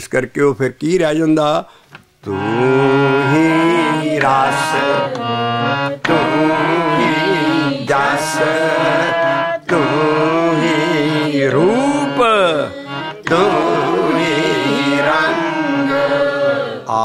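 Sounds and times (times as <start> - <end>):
man singing melodic phrases: 2.2 - 16.0
harmonium: 2.2 - 16.9.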